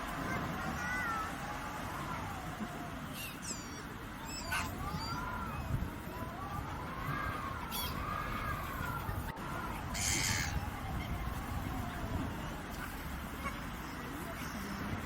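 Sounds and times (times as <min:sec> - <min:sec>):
slow wavering calls: 0:01.3 - 0:14.7.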